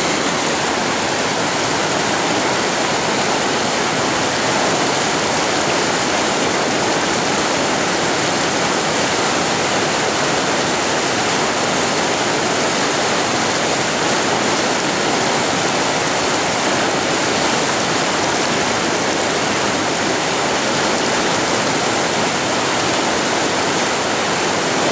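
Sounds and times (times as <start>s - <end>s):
whitewater rushing: 0.0s - 24.9s.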